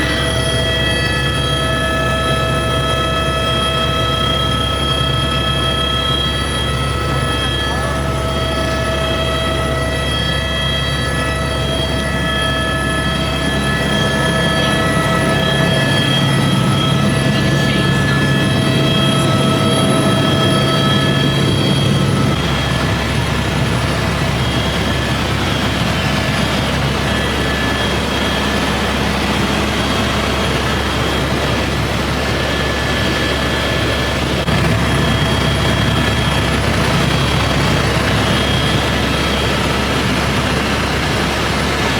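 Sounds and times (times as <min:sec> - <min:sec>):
helicopter engine and rotor drone: 0:00.0 - 0:41.9.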